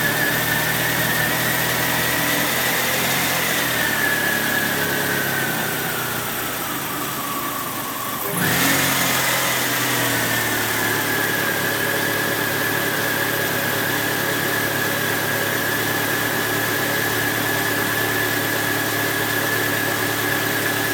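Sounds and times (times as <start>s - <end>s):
car engine revving and idling: 0.0s - 20.9s
high engine whine: 0.0s - 20.9s.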